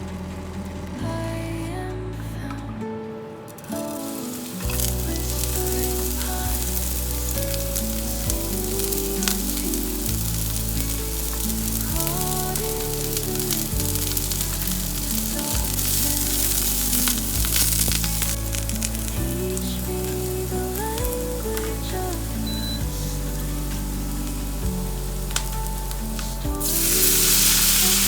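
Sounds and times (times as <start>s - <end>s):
background music: 0.0s - 28.0s
food frying in hot oil: 3.7s - 22.9s, 23.6s - 28.0s.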